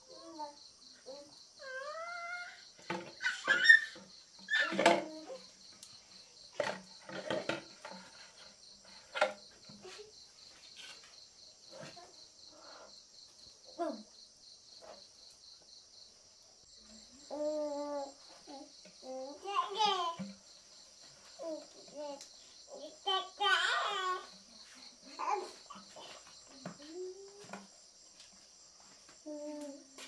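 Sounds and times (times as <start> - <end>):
insects chirping in a trill: 0.0 - 30.0.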